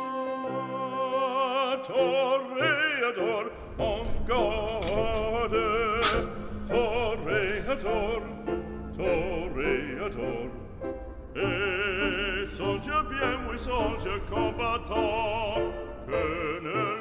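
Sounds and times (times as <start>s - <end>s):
operatic singing: 0.0s - 17.0s
orchestral accompaniment: 0.0s - 17.0s.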